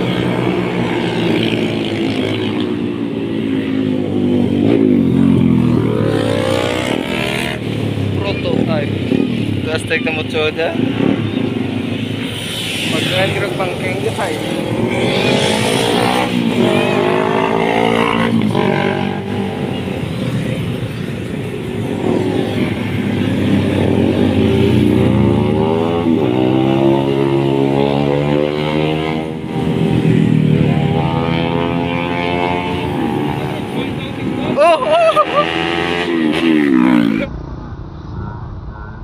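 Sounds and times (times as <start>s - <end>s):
motorcycles passing at speed: 0.0s - 37.5s.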